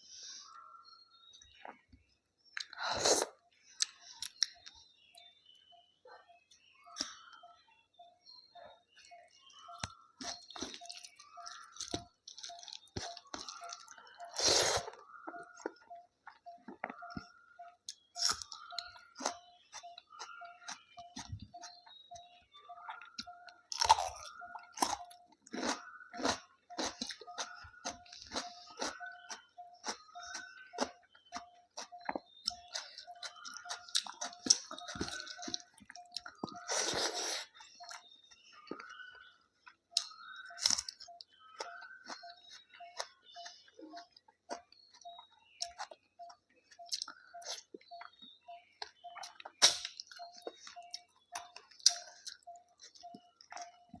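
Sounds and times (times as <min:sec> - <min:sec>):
person chewing food: 0:01.5 - 0:05.3, 0:08.8 - 0:54.0.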